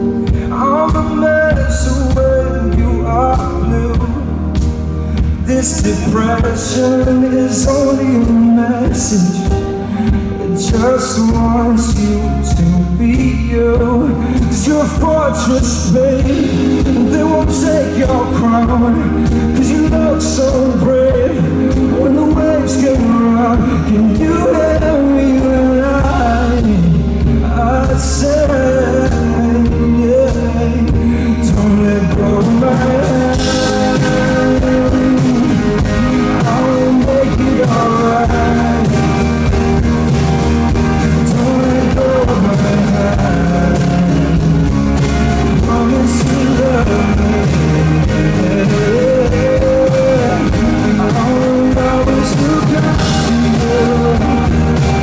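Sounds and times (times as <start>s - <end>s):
live band music: 0.0s - 55.0s
man singing: 0.0s - 55.0s.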